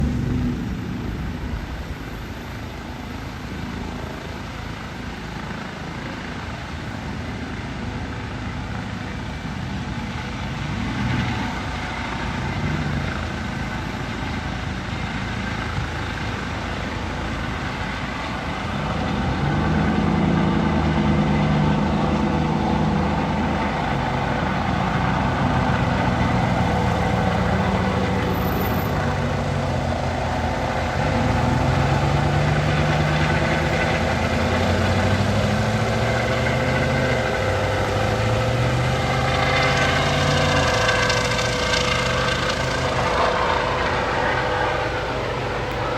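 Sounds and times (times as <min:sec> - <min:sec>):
helicopter rotor chopping: 0:00.0 - 0:45.9.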